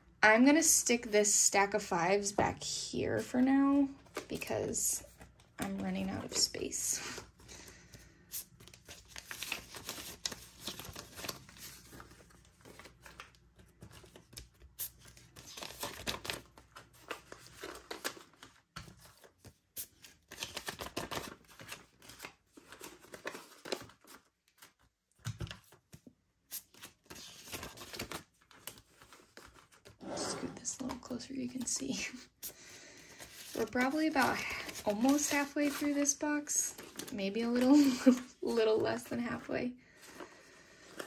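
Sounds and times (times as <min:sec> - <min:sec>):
banknotes rustling and snapping: 0:03.7 - 0:30.0, 0:30.8 - 0:38.6.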